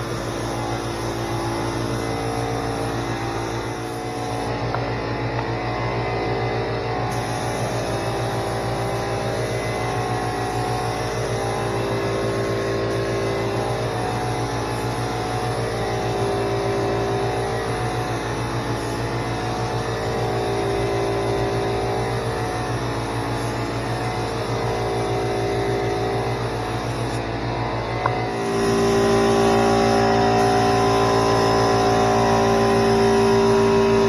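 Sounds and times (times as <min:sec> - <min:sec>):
spray gun hissing: 0:00.0 - 0:04.6, 0:07.1 - 0:27.4, 0:28.3 - 0:34.0
air compressor humming: 0:00.0 - 0:34.0.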